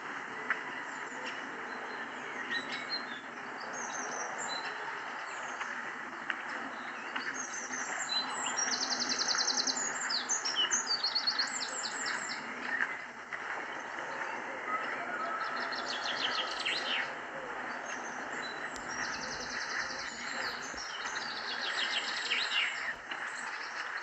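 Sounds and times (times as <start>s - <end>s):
songbirds chirping and singing: 0.0s - 24.0s.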